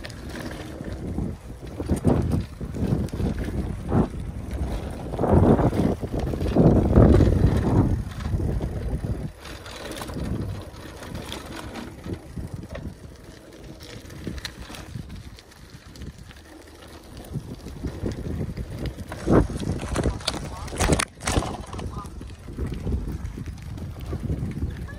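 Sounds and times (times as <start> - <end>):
bicycle clicks and rattles: 0.0 - 24.9
wind buffeting microphone: 0.0 - 24.9.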